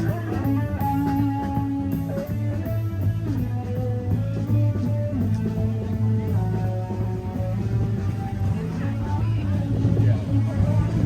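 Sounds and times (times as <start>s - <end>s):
guitar music with bass: 0.0s - 11.0s.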